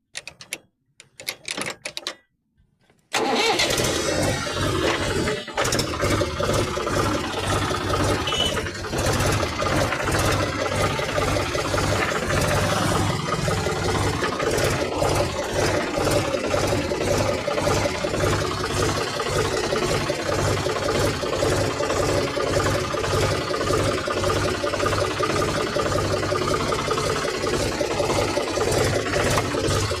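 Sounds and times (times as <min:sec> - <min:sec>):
tractor engine running: 0:03.1 - 0:30.0.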